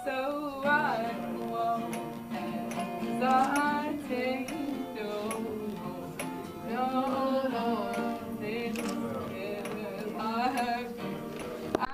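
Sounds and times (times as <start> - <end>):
acoustic guitar strumming: 0.0 - 11.9
woman singing: 0.0 - 11.9.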